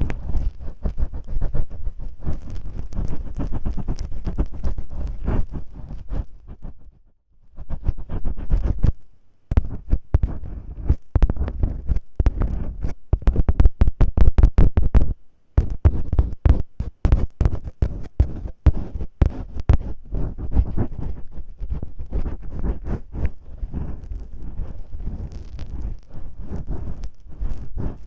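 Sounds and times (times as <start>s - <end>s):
masking tape crinkling on microphone: 0.0s - 6.9s, 7.6s - 28.0s.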